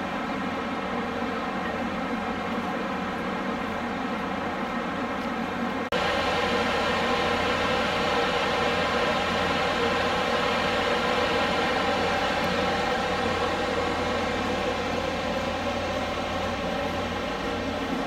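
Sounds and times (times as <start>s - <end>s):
machinery hum and drone: 0.0s - 18.0s.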